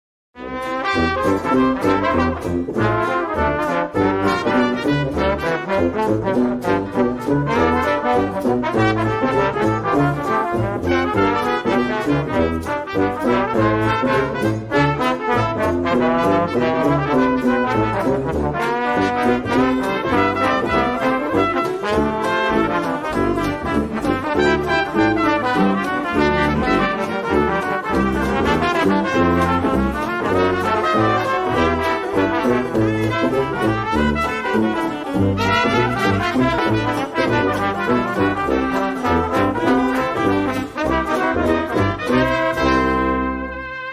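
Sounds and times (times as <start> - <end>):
brass music with steady beat: 0.4 - 43.9.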